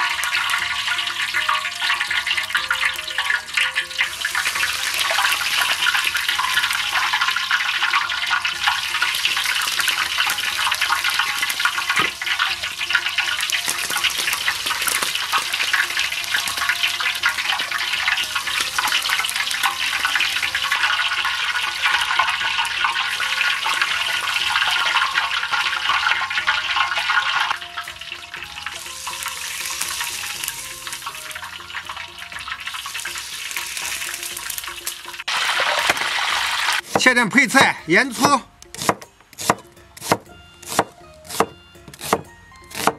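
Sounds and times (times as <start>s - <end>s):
hot oil pouring and splashing: 0.0s - 37.0s
oil sizzling: 0.0s - 42.9s.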